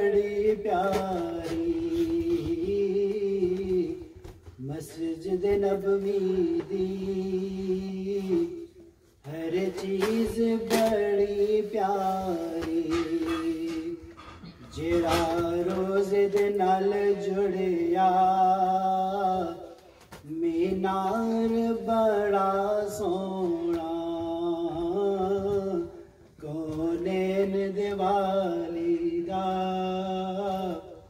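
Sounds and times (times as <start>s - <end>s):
man singing unaccompanied: 0.0s - 31.0s.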